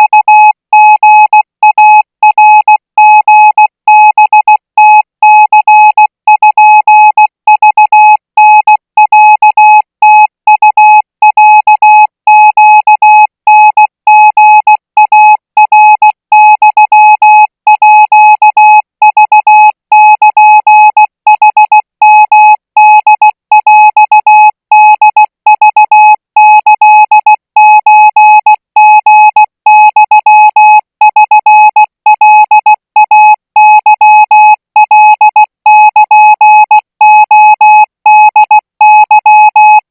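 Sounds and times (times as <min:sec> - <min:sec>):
morse code beeps: 0:00.0 - 0:39.8.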